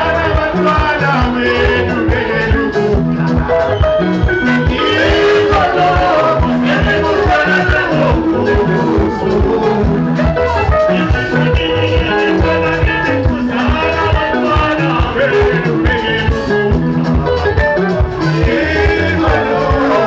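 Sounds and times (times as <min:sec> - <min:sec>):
bass guitar: 0:00.0 - 0:20.0
drum kit beat: 0:00.0 - 0:20.0
electric guitars: 0:00.0 - 0:20.0
men singing into microphones: 0:00.0 - 0:20.0.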